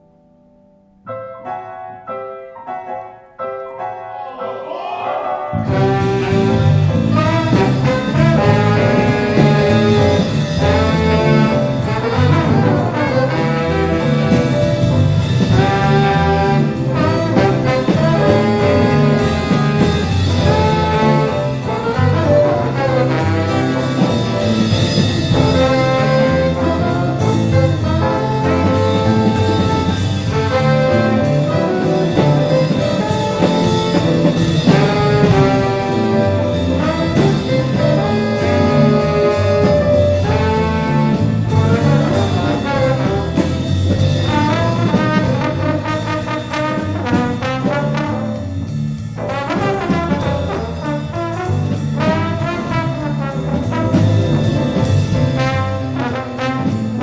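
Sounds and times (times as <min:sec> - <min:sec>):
jazz big band playing: 0:05.3 - 0:57.0
trumpets and trombones: 0:05.3 - 0:57.0.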